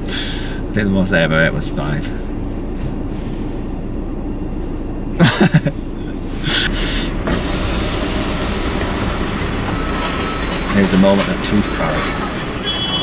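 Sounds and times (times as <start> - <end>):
car engine idling: 0.0 - 13.0
outside noise: 0.0 - 13.0.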